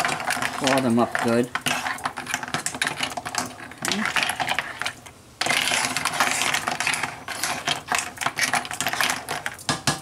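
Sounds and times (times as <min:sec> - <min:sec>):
sauce bubbling: 0:00.0 - 0:09.8
clam shells clinking in a pot: 0:00.0 - 0:10.0.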